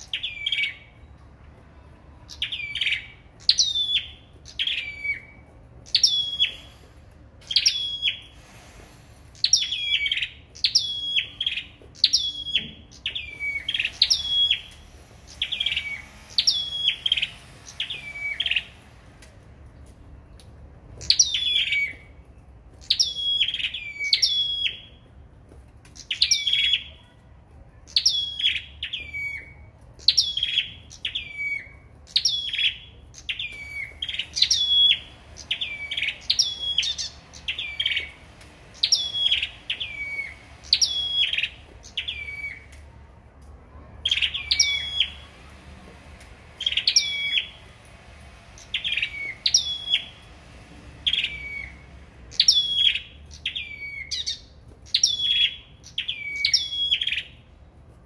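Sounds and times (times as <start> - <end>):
songbirds whistling: 0.0 - 1.2, 2.1 - 19.1, 19.8 - 25.1, 25.9 - 27.2, 27.9 - 43.0, 44.0 - 45.6, 46.2 - 57.6.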